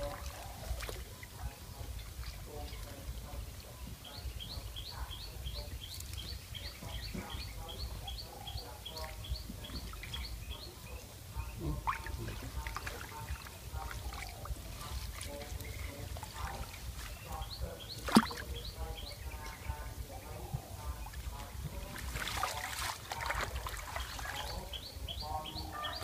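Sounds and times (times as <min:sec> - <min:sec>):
water sloshing and dripping: 0:00.0 - 0:26.0.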